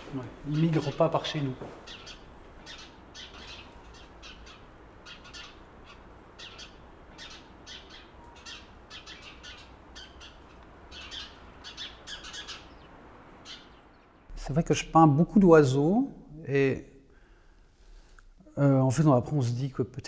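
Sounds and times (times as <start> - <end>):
songbirds chirping: 0.0 - 19.7
faint low background rumble: 0.0 - 20.0.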